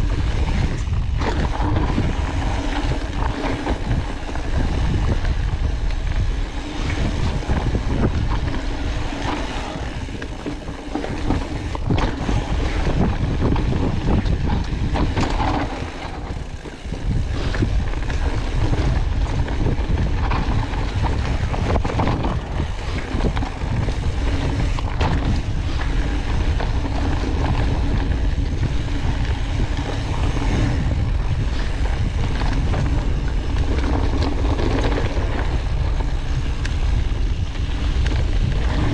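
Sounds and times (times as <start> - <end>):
bike knocks and rattles: 0.0 - 38.9
wind rushing over microphone: 0.0 - 38.9.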